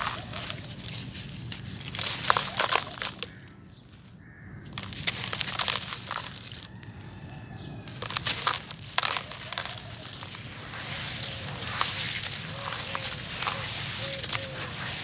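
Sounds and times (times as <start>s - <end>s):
charcoal being crushed by hand: 0.0s - 3.8s, 4.6s - 7.0s, 7.9s - 15.0s.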